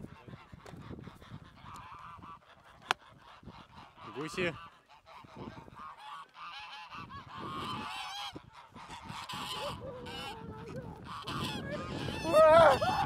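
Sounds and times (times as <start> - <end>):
geese honking and gabbling: 0.0 - 13.0.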